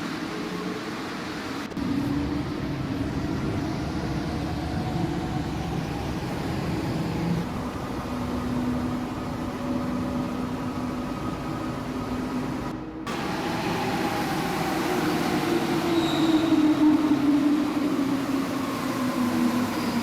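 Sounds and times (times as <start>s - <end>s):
metro train running: 0.0s - 20.0s.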